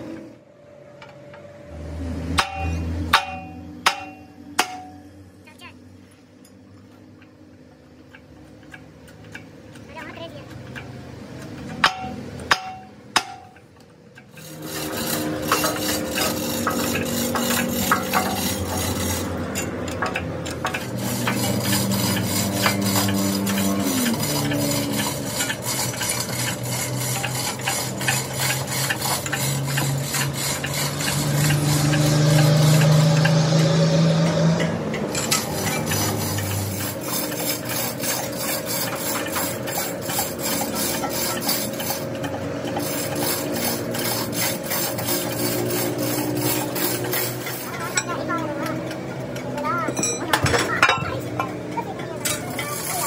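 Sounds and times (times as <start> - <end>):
metal rasping and scraping: 1.0 - 5.7, 8.1 - 53.0.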